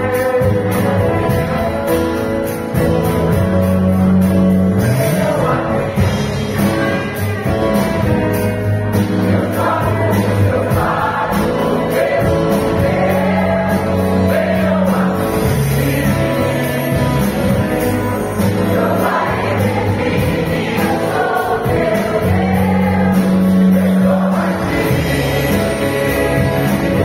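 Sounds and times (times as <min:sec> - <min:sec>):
choir singing gospel: 0:00.0 - 0:27.0
keyboard and bass accompaniment: 0:00.0 - 0:27.0.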